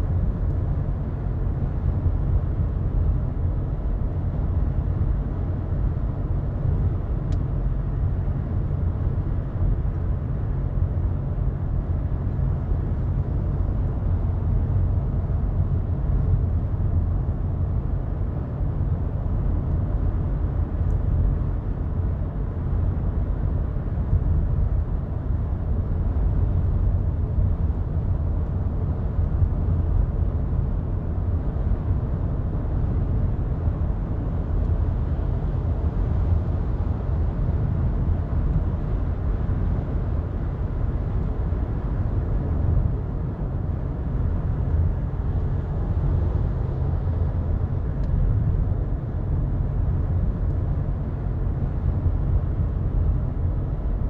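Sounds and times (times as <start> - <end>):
car interior engine and road noise: 0.0 - 54.0.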